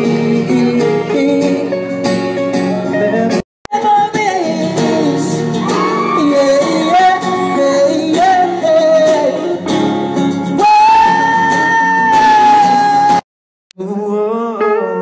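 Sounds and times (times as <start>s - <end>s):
person singing: 0.0s - 2.0s, 2.9s - 9.8s, 10.6s - 13.2s, 13.8s - 15.0s
strummed acoustic guitar: 0.0s - 13.2s.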